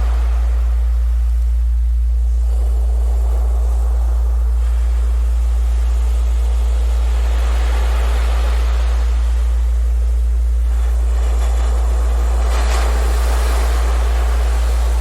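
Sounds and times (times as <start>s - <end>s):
ocean surf: 0.0s - 15.0s
steady low tone hum: 0.0s - 15.0s.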